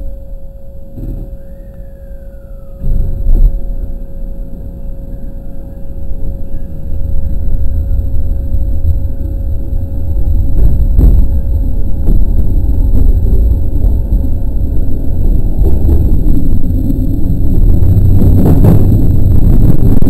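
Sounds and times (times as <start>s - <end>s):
electric train rumbling: 0.0s - 20.0s
steady tone: 0.0s - 20.0s.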